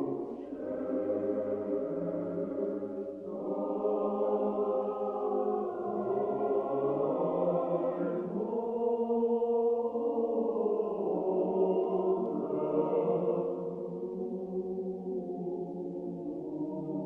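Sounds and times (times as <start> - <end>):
choir chanting: 0.0 - 17.0.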